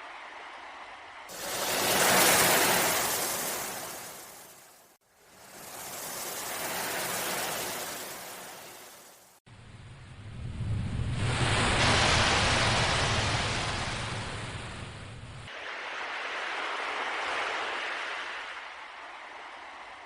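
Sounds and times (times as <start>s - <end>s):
ocean waves washing in: 0.0s - 20.0s.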